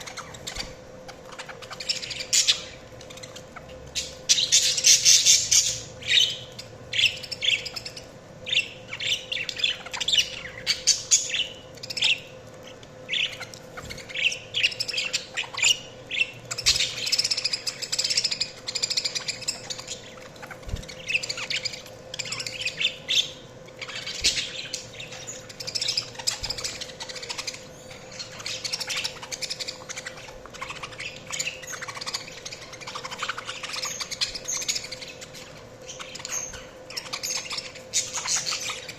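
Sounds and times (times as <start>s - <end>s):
budgies chirping: 0.0s - 38.9s.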